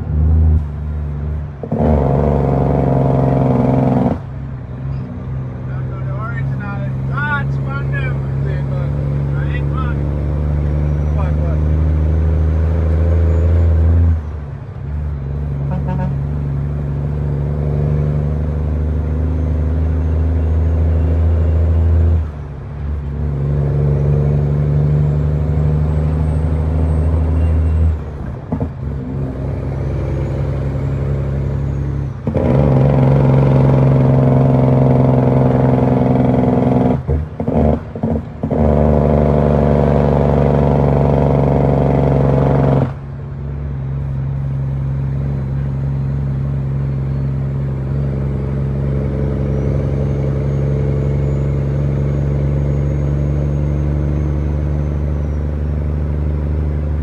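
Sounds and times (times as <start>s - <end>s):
truck diesel engine: 0.0s - 57.0s.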